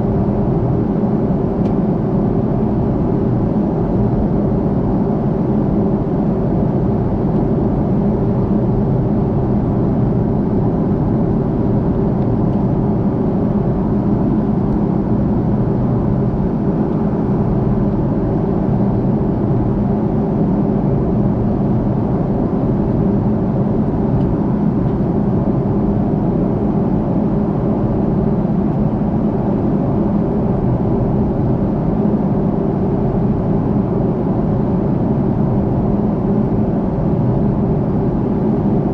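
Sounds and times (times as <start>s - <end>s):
airliner cabin drone: 0.0s - 38.9s.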